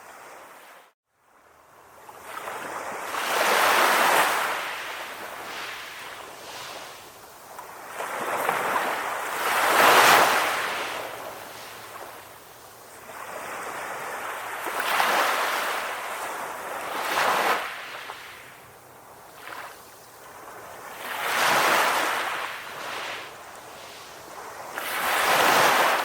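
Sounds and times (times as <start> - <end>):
ocean waves washing onto shore: 1.8 - 26.0.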